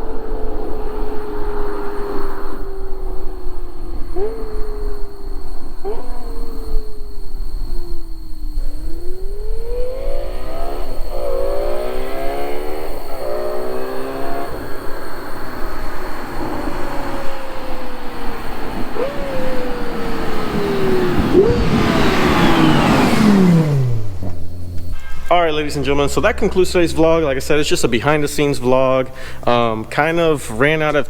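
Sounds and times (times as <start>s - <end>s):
supercar engine revving: 0.0s - 31.0s.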